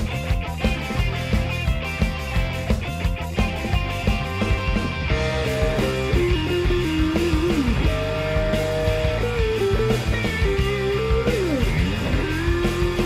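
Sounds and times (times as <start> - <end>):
music with sliding melody and beat: 0.0 - 13.0.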